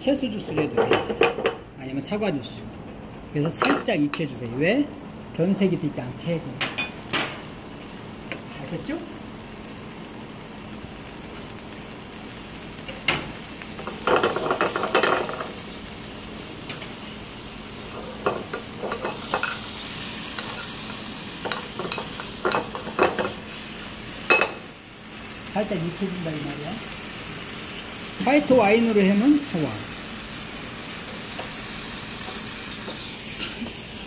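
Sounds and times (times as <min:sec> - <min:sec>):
apple cubes sizzling in pan: 0:03.4 - 0:34.0.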